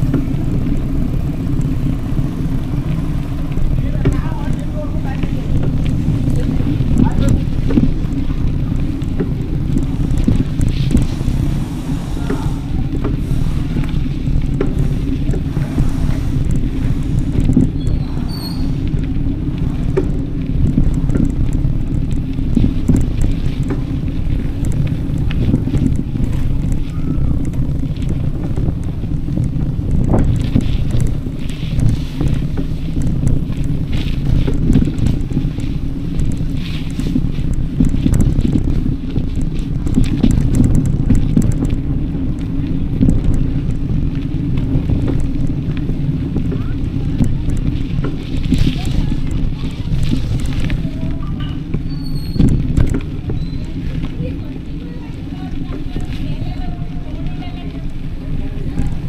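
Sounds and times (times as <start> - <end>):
faint clicks: 0.0 - 59.0
wind buffeting microphone: 0.0 - 59.0.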